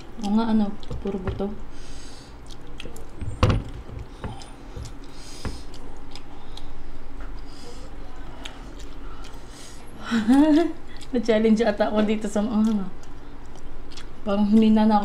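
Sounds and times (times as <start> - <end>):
chewing: 2.1 - 11.6, 12.2 - 15.0.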